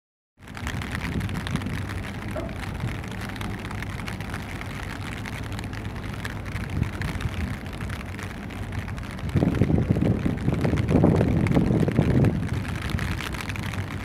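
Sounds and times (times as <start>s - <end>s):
fine crackle: 0.4s - 14.0s
outdoor rushing noise: 0.4s - 14.0s.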